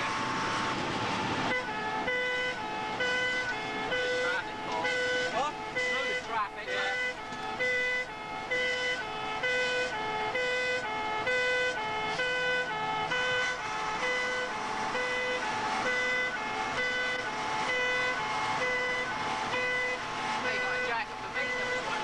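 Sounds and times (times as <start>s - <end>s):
engine and road noise: 0.0s - 22.0s
fire engine two-tone siren: 0.0s - 22.0s.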